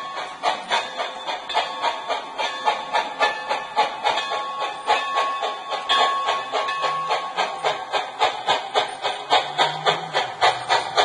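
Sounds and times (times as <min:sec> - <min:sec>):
model train running on track: 0:00.0 - 0:11.0
rhythmic short clicks: 0:00.0 - 0:11.0.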